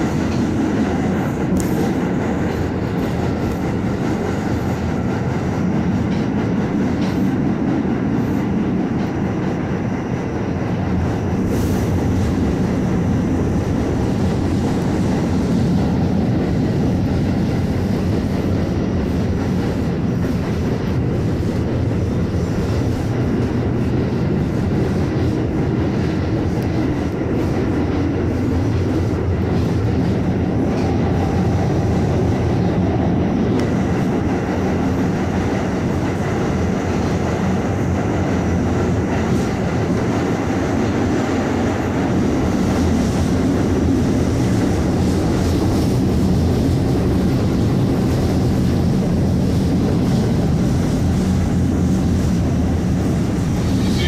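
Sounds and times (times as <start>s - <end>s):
subway car rumbling along track: 0.0s - 54.0s.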